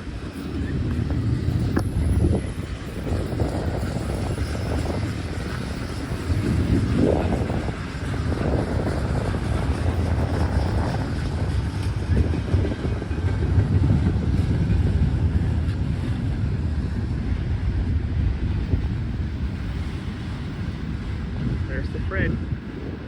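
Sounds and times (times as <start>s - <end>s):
freight train rumble: 0.0s - 23.0s
wind buffeting microphone: 0.0s - 23.0s.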